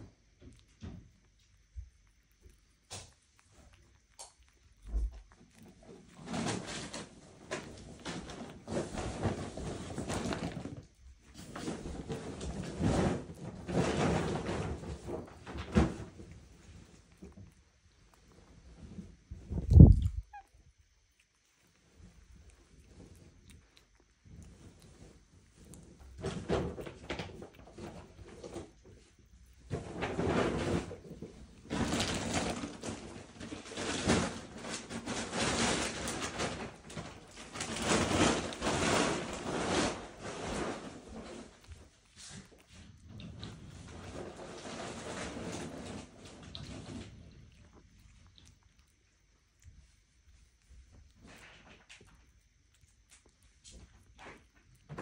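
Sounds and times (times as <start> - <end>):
kitten chewing wet food: 0.0 - 55.0.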